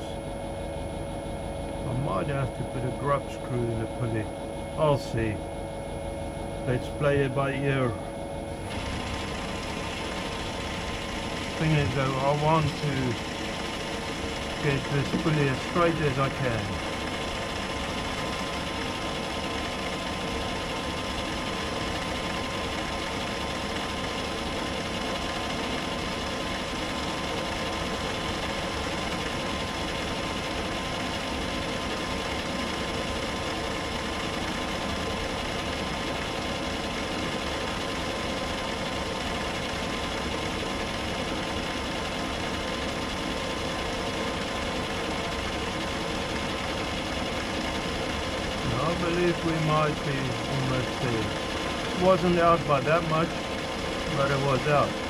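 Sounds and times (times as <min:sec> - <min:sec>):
metal lathe running: 0:00.0 - 0:55.0.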